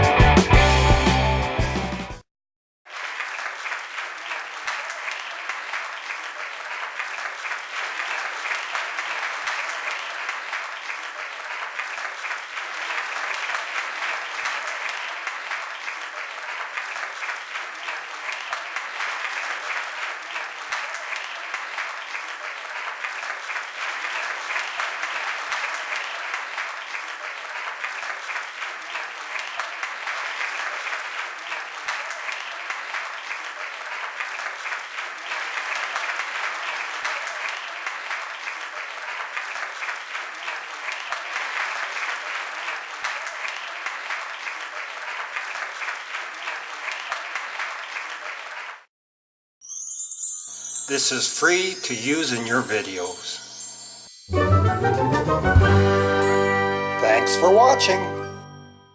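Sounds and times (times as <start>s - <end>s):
crowd applauding: 2.9s - 48.9s, 49.7s - 58.8s.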